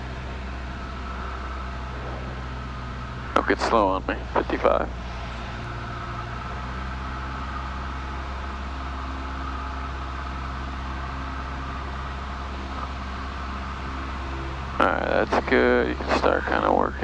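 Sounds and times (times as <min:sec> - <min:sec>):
light aircraft engine and propeller drone: 0:00.0 - 0:17.0.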